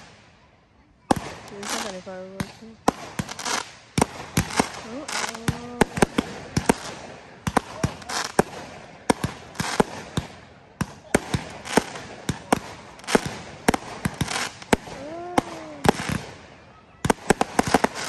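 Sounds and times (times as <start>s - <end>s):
fireworks bursting with bangs: 0.0s - 18.0s
fireworks crackling: 0.0s - 18.0s.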